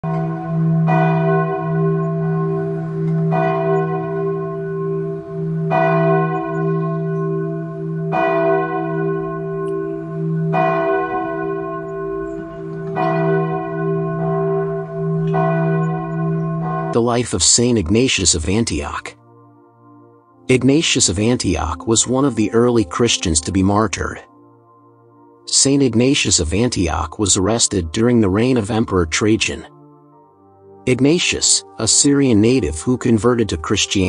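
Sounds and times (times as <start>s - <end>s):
large church bell tolling: 0.0s - 34.0s.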